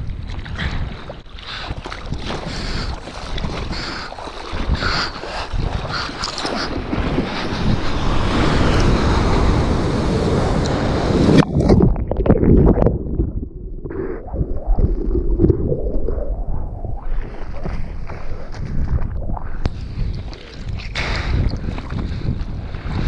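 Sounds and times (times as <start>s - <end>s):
wind on microphone: 0.0s - 23.0s
muffled underwater churn: 0.1s - 23.0s
seawater rushing and splashing: 1.1s - 23.0s.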